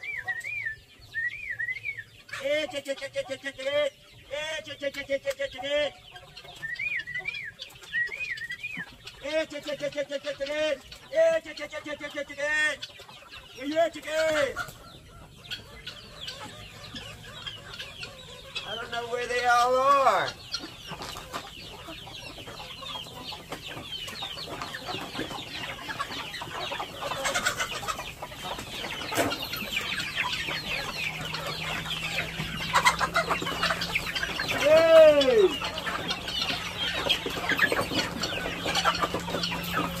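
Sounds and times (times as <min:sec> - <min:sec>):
chickens clucking: 0:00.0 - 0:40.0
drawn-out chicken call: 0:00.0 - 0:40.0.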